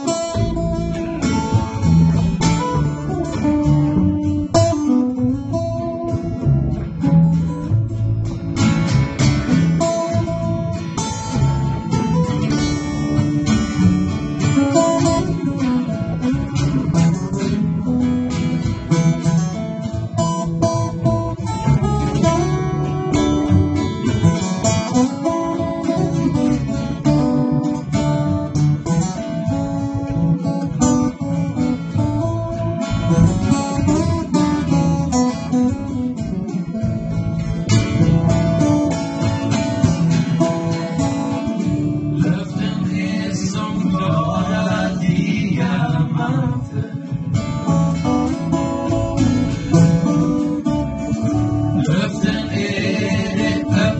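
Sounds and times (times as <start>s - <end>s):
acoustic guitars strumming: 0.0s - 53.9s
upright double bass: 0.0s - 53.9s.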